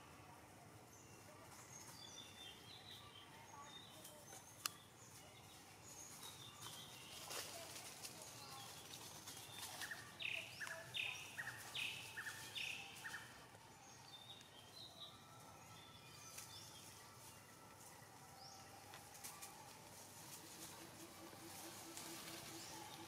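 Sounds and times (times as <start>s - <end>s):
forest ambience: 0.0s - 23.0s.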